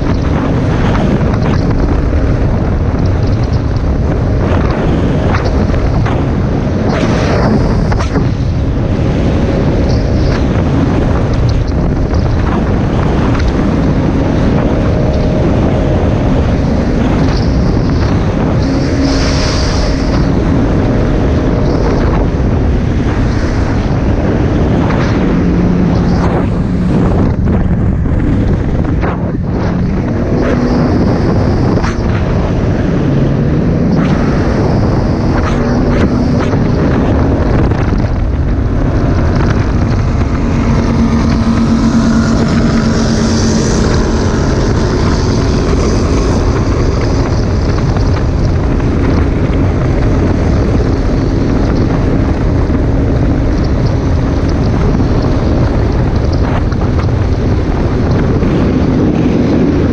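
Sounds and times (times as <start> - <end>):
jet ski engine: 0.0 - 59.9
wind buffeting microphone: 0.0 - 59.9.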